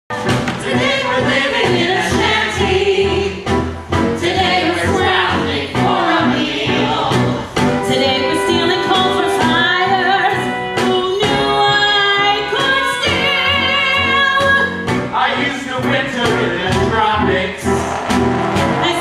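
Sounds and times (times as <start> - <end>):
instrumental accompaniment: 0.1 - 19.0
chorus singing a show tune: 0.6 - 3.4, 4.1 - 18.0.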